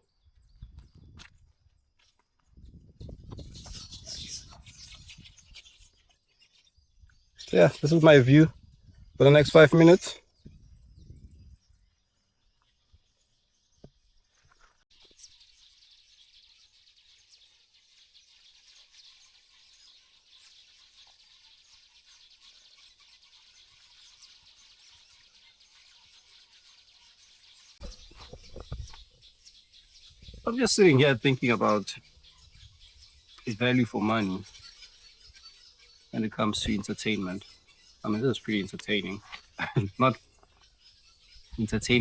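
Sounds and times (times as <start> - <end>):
birds and insects chirping: 0.0 - 42.0.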